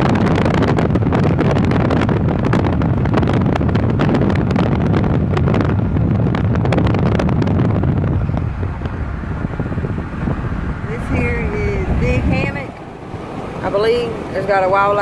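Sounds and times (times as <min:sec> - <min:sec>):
road and tyre rumble: 0:00.0 - 0:15.0
wind buffeting microphone: 0:00.0 - 0:15.0.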